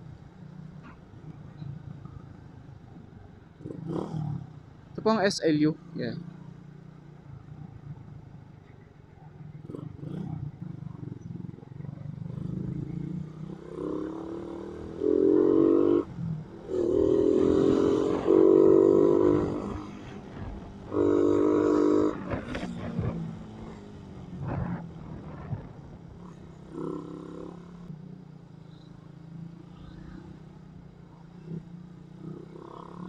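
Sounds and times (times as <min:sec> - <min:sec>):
motorcycle engine hum: 0:00.0 - 0:33.0.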